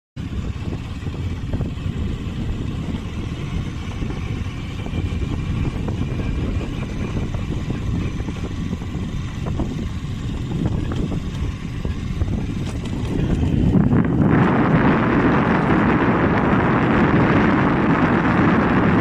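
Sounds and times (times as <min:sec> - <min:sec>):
motorcycle engine rumbling: 0:00.2 - 0:19.0
wind buffeting microphone: 0:00.2 - 0:19.0.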